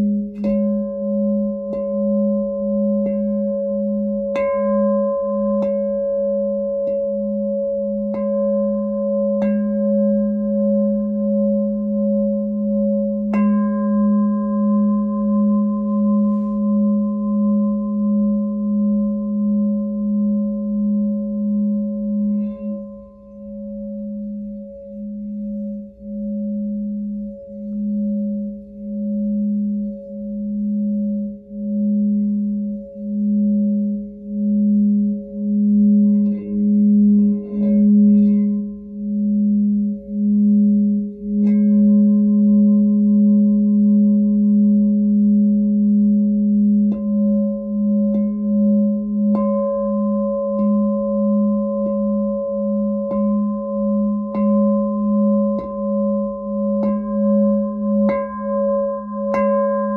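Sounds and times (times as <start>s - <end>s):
singing bowl deep tone: 0.0s - 59.9s.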